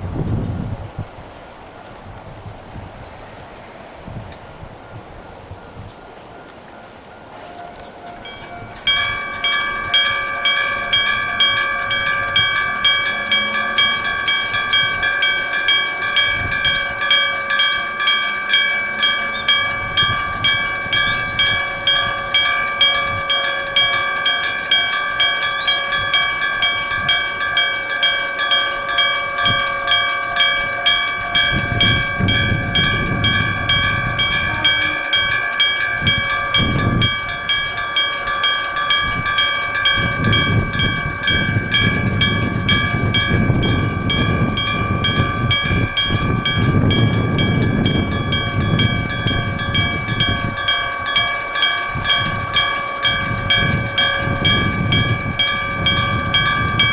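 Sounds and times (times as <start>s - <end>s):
level-crossing bell ringing: 6.1s - 56.9s.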